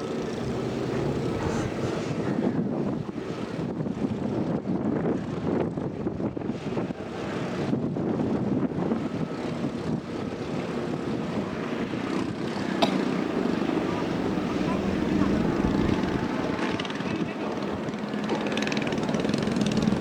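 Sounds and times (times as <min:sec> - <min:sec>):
boat engine droning: 0:00.0 - 0:04.4, 0:06.5 - 0:20.0.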